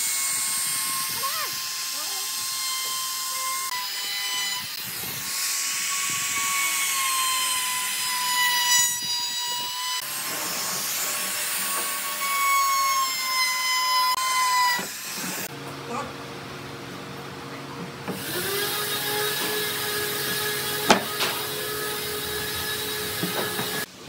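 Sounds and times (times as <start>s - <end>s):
router whining while cutting wood: 0.0s - 15.5s, 18.1s - 23.9s.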